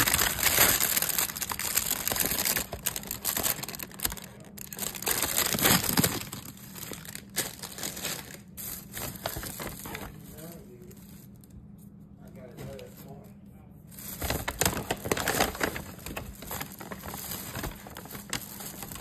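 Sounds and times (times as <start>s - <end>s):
bags rustling and crinkling: 0.0s - 11.4s, 13.9s - 19.0s.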